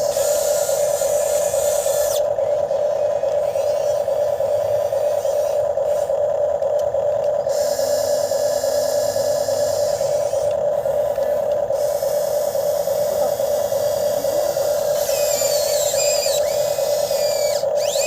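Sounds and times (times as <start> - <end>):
motor and hydraulic pump whining: 0.0 - 18.0.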